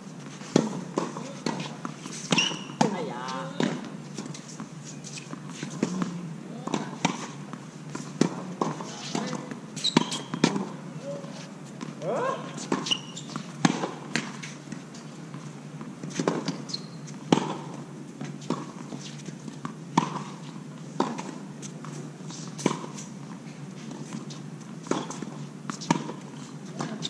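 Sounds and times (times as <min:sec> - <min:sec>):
tennis balls struck by racquets: 0:00.5 - 0:16.7, 0:17.3 - 0:18.9, 0:19.6 - 0:20.4, 0:21.0 - 0:23.1, 0:24.8 - 0:27.0
tennis balls bouncing on court: 0:00.5 - 0:27.0.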